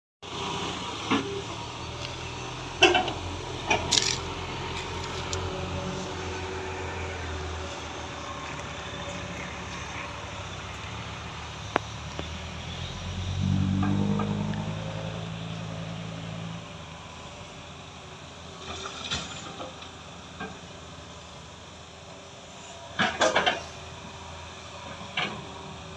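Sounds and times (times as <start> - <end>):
diesel engines running: 0.2 - 25.9.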